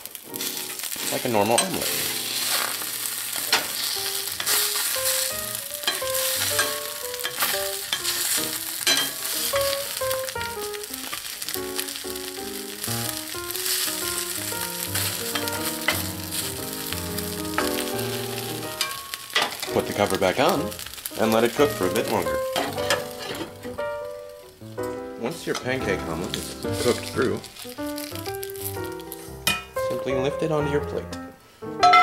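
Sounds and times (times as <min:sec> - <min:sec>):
omelet sizzling in a pan: 0:00.0 - 0:30.4
simple background melody: 0:00.1 - 0:32.0.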